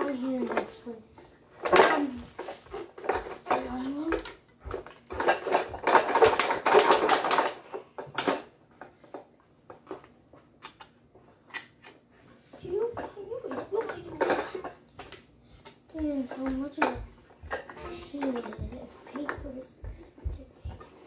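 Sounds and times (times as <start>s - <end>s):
plastic toy clicking and rattling: 1.6s - 12.0s, 12.6s - 19.6s.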